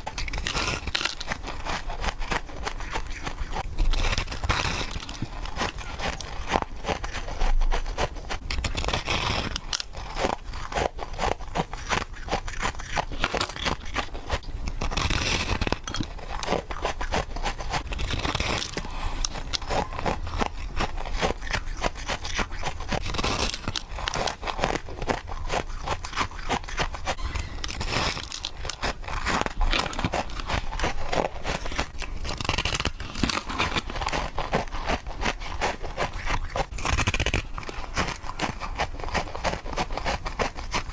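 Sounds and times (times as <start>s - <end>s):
person crunching frost: 0.0s - 40.9s.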